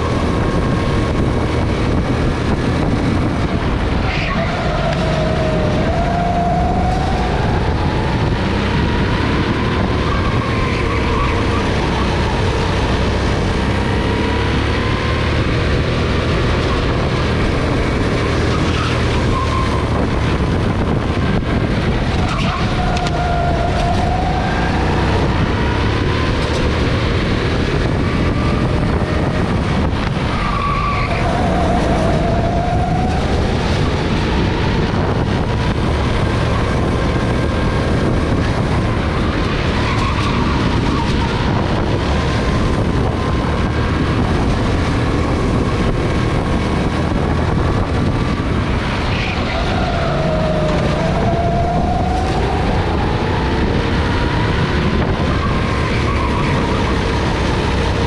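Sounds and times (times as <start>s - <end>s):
go-kart engine running: 0.0s - 58.0s
steady rush of noise: 0.0s - 58.0s.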